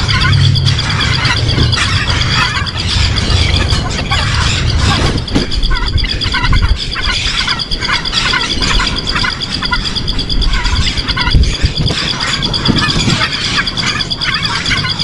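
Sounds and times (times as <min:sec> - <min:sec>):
low rumble: 0:00.0 - 0:14.2
rapidly pulsing high note: 0:00.0 - 0:15.0
small birds chirping: 0:00.0 - 0:15.0.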